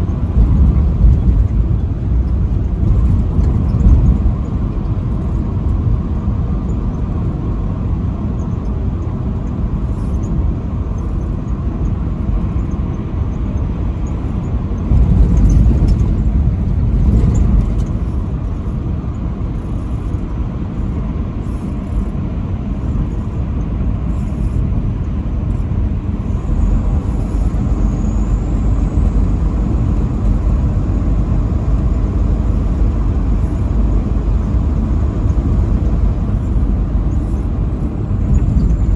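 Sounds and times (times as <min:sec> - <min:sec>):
truck rumbling on highway: 0:00.0 - 0:38.9.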